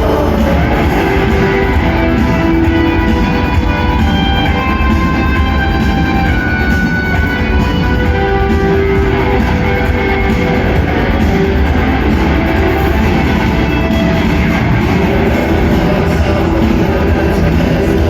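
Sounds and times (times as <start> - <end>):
rock band playing instrumental: 0.0 - 18.0.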